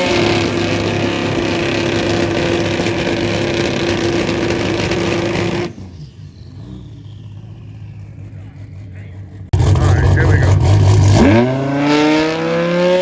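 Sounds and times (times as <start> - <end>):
drag racing car engine revving: 0.0 - 13.0.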